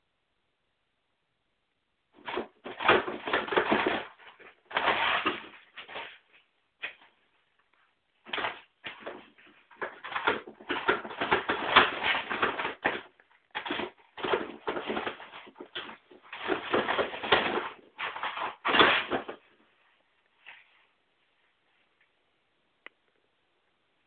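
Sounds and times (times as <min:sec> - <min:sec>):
paper towels rustling: 0:02.2 - 0:22.1.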